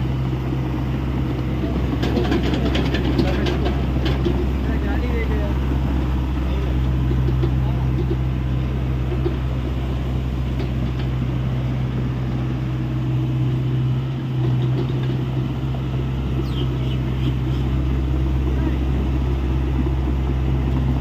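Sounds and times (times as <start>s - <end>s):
excavator diesel engine humming: 0.0s - 21.0s.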